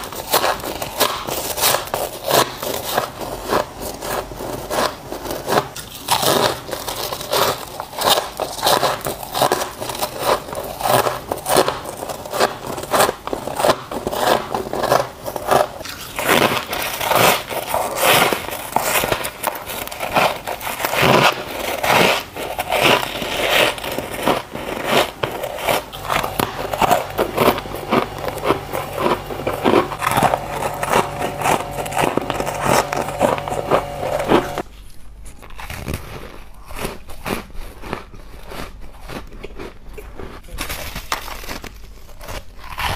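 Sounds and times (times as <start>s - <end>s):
frost being chewed crunching: 0.0s - 42.9s.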